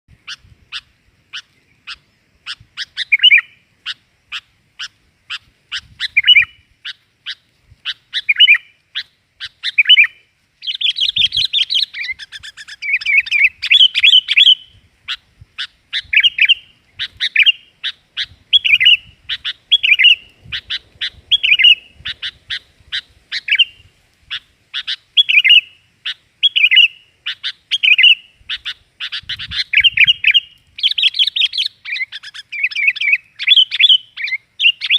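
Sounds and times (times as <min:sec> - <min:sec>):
bird chattering: 0:00.2 - 0:34.9.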